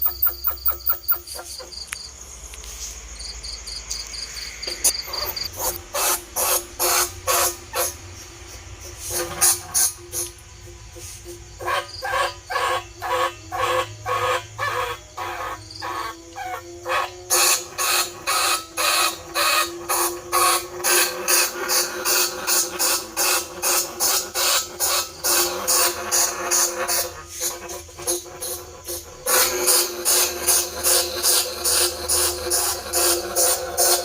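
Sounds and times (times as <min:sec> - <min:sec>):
rats squeaking: 0:00.0 - 0:02.1, 0:03.9 - 0:10.3, 0:11.6 - 0:34.0.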